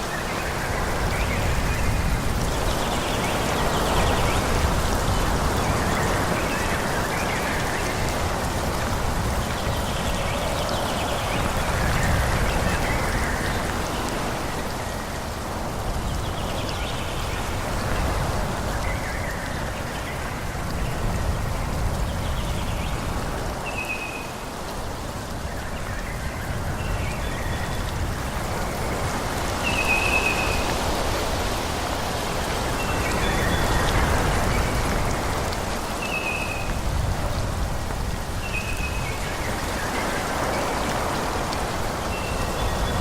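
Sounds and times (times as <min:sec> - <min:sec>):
wind rushing through trees: 0:00.0 - 0:43.0.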